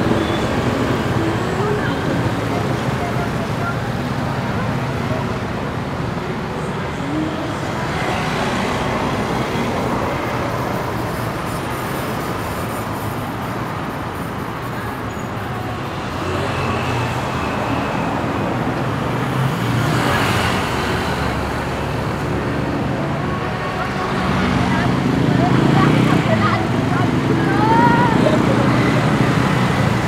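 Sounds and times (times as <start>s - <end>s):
city road traffic: 0.0s - 30.0s.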